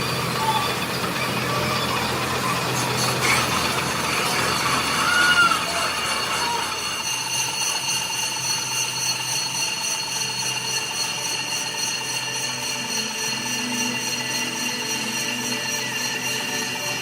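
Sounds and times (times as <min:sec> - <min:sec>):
falling squeal: 0:00.0 - 0:17.0
workshop machinery whine: 0:00.0 - 0:17.0.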